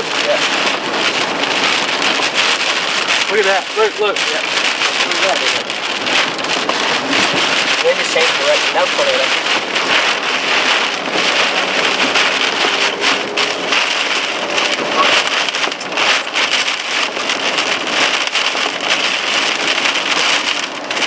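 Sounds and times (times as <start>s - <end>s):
heavy rain on a vehicle: 0.0s - 21.0s.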